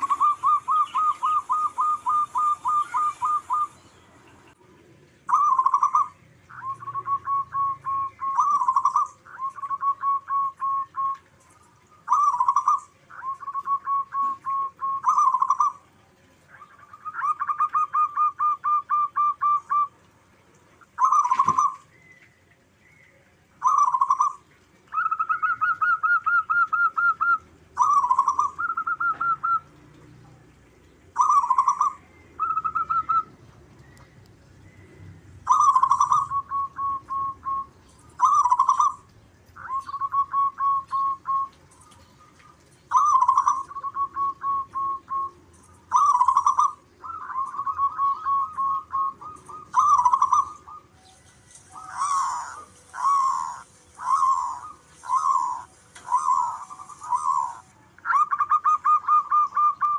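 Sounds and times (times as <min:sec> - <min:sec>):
doves cooing: 0:00.0 - 0:22.6, 0:23.5 - 0:59.9.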